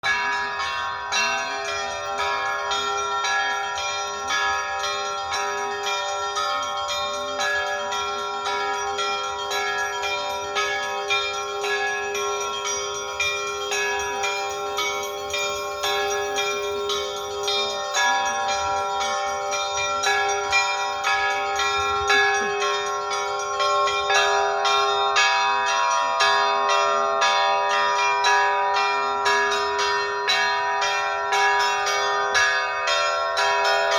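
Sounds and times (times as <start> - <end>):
bells ringing in quick rhythm: 0.0 - 33.9
large bell humming: 0.0 - 33.9.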